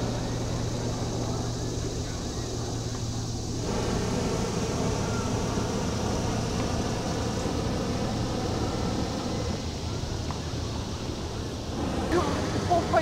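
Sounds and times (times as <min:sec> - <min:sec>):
propane burner blast: 0:00.0 - 0:13.0.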